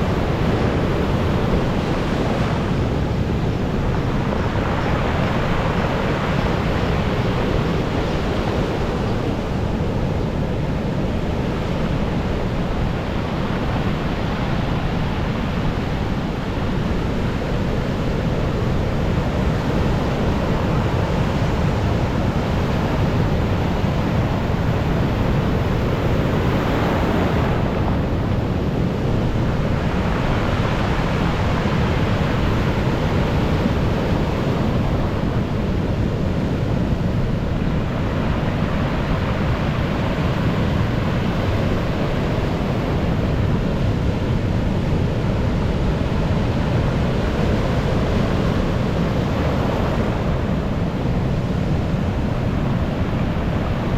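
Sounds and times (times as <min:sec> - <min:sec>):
storm surf breaking on shore: 0:00.0 - 0:53.9
wind on microphone: 0:00.0 - 0:53.9.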